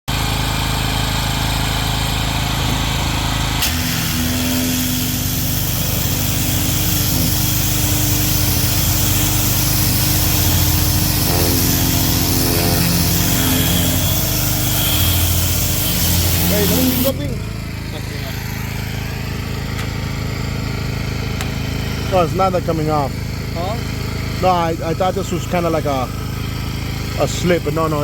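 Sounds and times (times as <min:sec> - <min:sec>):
power equipment droning: 0:00.1 - 0:28.0.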